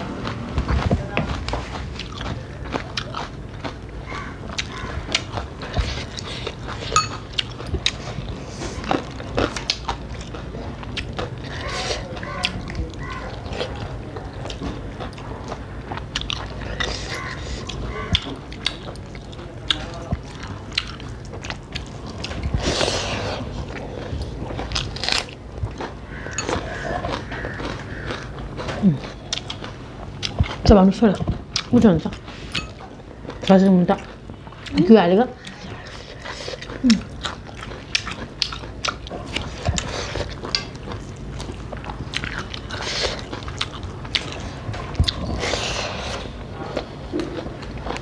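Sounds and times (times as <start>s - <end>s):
chewing and lip smacking: 0.2s - 48.0s.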